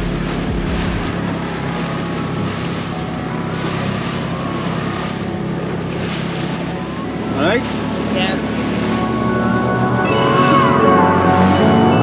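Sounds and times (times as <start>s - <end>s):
outboard engine running: 0.0s - 12.0s.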